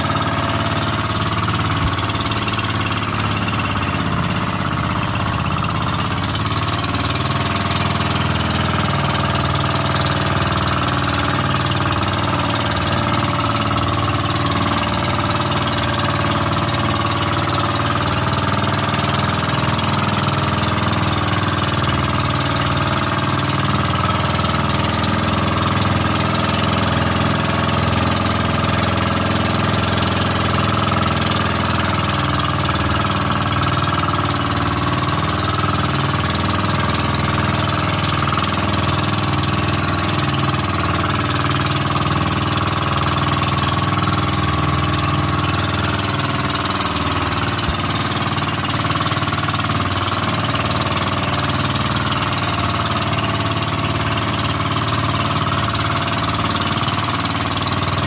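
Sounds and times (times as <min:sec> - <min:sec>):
boat engine running: 0:00.0 - 0:58.0
rushing water: 0:00.0 - 0:58.0
wind: 0:00.0 - 0:58.0.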